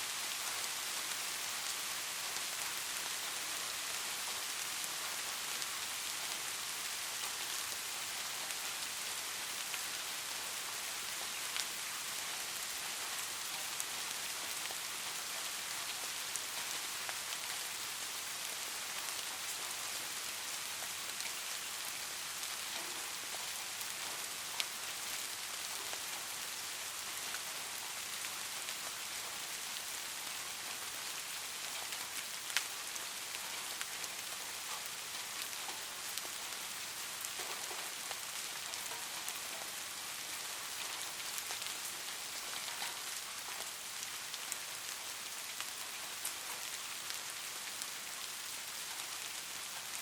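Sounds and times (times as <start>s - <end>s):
light rain: 0.0s - 50.0s.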